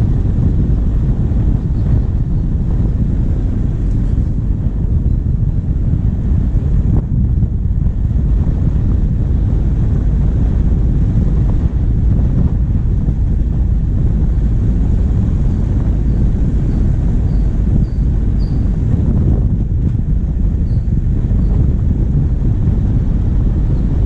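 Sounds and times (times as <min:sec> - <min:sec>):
diesel engine rumble: 0:00.0 - 0:24.0
wind buffeting microphone: 0:00.0 - 0:24.0.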